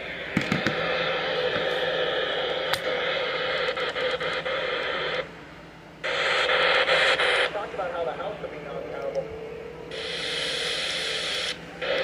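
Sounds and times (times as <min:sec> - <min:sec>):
radio static hiss: 0:00.0 - 0:05.4, 0:06.0 - 0:09.0, 0:09.9 - 0:12.0.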